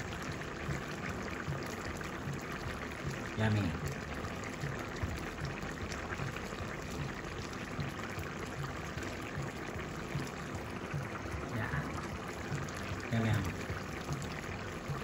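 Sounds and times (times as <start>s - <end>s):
curry bubbling in a pan: 0.0s - 15.0s.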